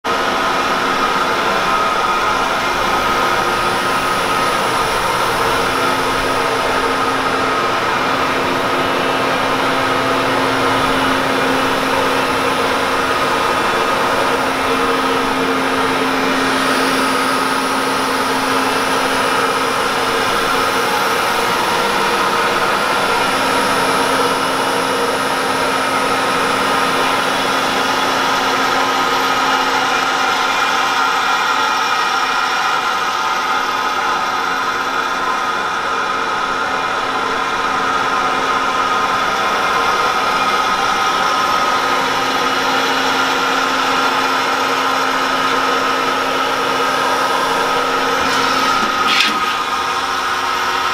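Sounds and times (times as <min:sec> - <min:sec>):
machine hum with whining tones: 0:00.0 - 0:50.9.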